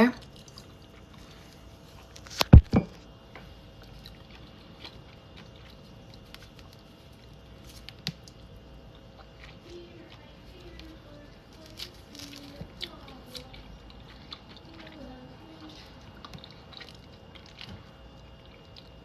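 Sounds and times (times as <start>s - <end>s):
chewing with wet clicks: 0.2s - 2.5s, 3.4s - 19.0s.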